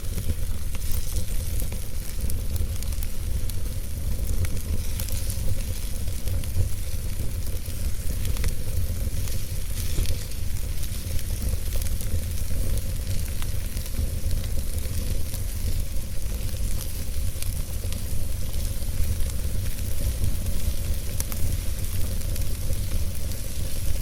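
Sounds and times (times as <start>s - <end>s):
fire crackles and pops: 0.0s - 24.0s
fire hissing and rumbling: 0.0s - 24.0s.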